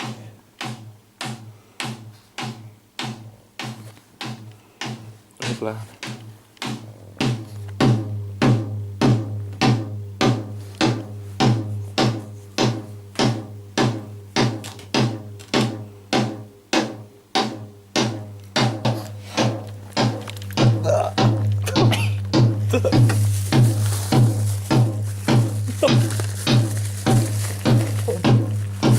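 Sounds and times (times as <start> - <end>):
kick drum hits: 0.0 - 28.9.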